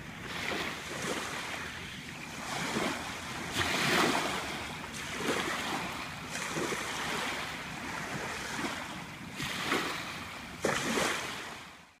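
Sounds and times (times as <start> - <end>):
small waves washing onto sand: 0.0 - 11.9.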